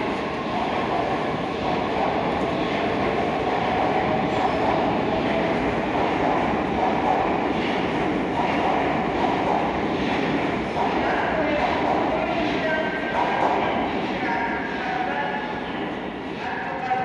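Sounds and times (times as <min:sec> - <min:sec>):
metro train rumble and hum: 0:00.0 - 0:17.0.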